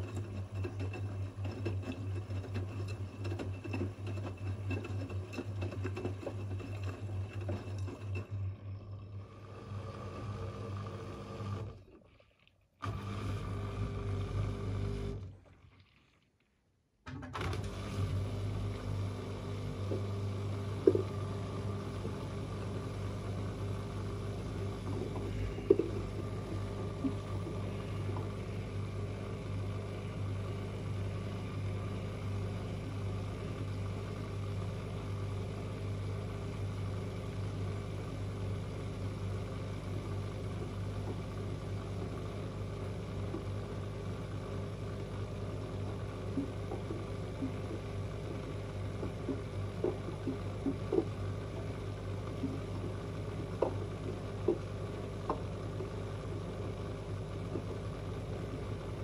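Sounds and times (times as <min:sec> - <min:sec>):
washing machine running: 0:00.0 - 0:12.0, 0:12.8 - 0:15.4, 0:17.1 - 0:59.0.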